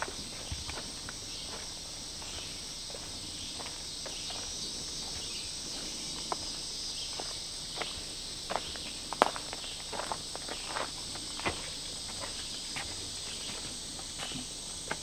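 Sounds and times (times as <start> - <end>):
footsteps on dirt trail: 0.0 - 15.0
insects chirping: 0.0 - 15.0.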